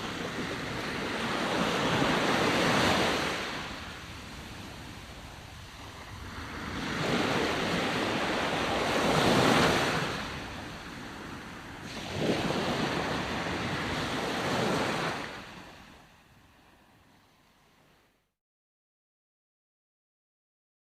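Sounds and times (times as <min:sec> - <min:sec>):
ocean waves breaking: 0:00.0 - 0:18.1.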